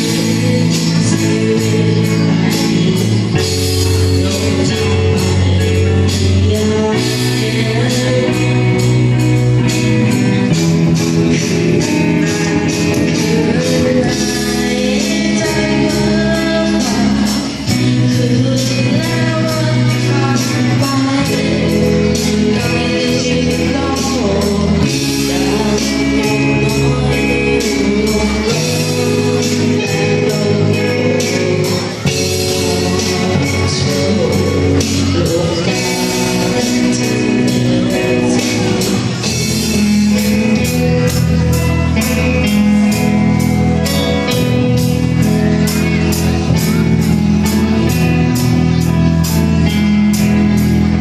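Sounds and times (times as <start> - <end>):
band playing: 0.0 - 51.0
person singing: 0.0 - 51.0.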